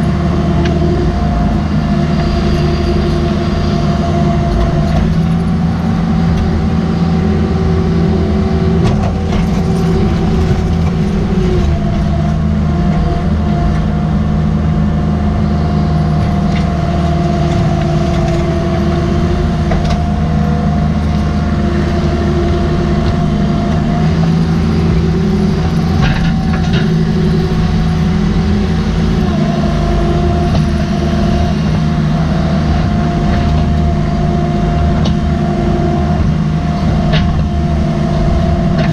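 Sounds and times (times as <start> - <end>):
diesel engine running: 0.0 - 38.9
hydraulic whine: 0.0 - 38.9.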